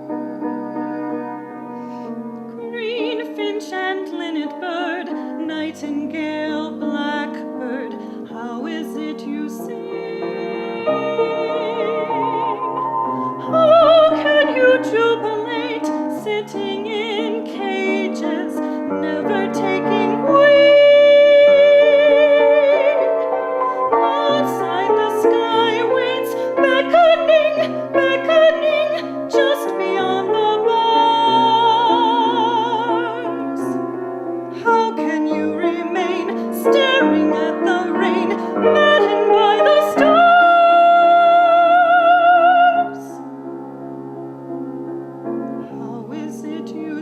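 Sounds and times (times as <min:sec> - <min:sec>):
soprano singing wordless vocalise: 0:00.0 - 0:43.3, 0:45.3 - 0:47.0
piano chords: 0:00.0 - 0:47.0.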